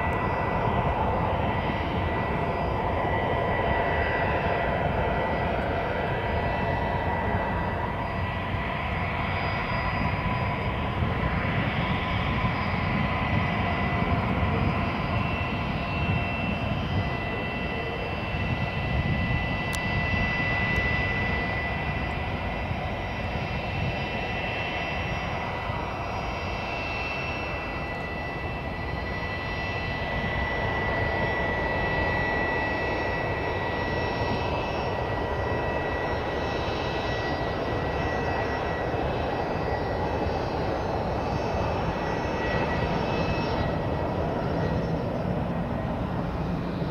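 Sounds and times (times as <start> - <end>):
jet taxiing whine and rumble: 0.0 - 46.9.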